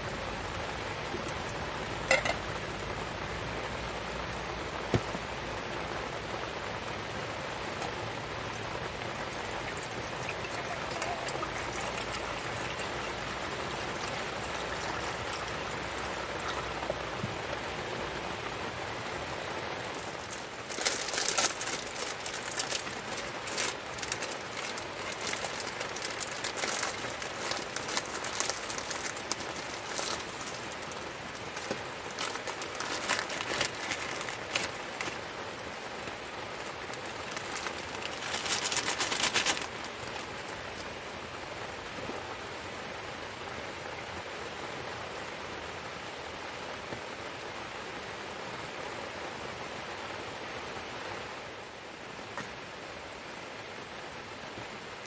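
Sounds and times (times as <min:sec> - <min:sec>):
crackling patter of raindrops: 0:00.0 - 0:55.0
steady rain: 0:00.0 - 0:55.0.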